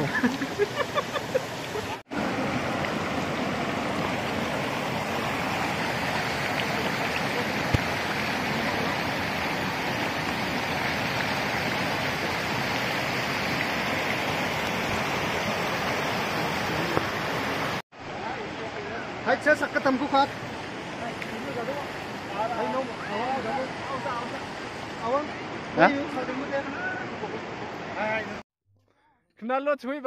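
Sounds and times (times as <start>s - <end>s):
stream water rushing over rocks: 0.0s - 28.4s.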